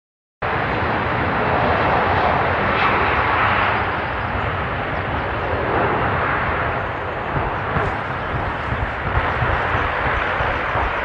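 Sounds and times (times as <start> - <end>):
jet airliner engine rushing: 0.4 - 11.0.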